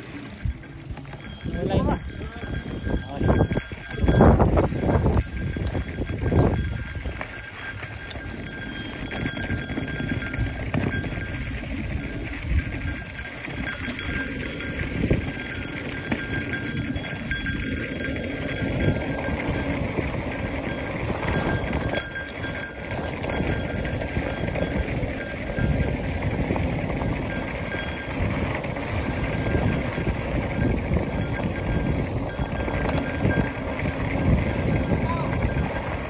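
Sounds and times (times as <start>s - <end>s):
bike rattling and jingling: 0.0s - 36.0s
tyres rolling on loose dirt: 0.0s - 36.0s.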